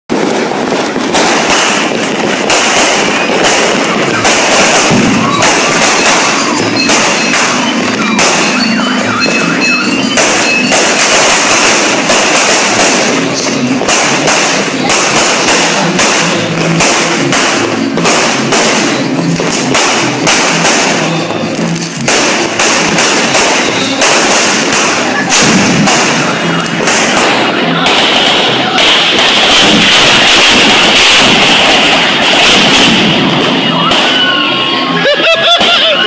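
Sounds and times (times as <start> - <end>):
firecrackers banging: 0.0 - 36.0
music playing: 2.1 - 36.0.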